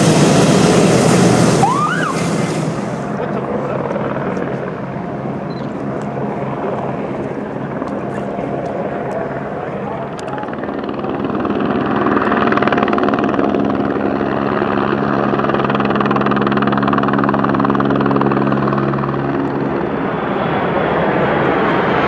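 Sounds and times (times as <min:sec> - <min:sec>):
aircraft engine roar overhead: 0:00.0 - 0:22.0.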